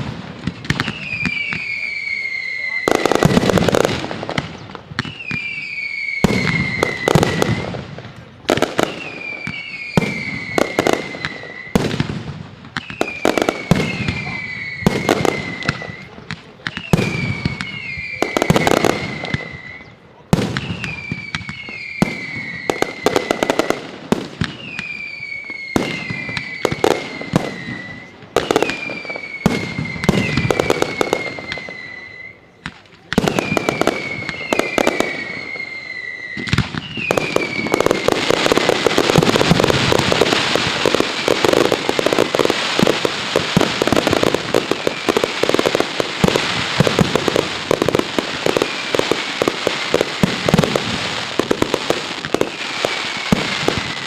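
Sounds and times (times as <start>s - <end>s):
firecracker bangs: 0.0s - 31.9s, 32.5s - 54.0s
whistling fireworks: 0.0s - 54.0s.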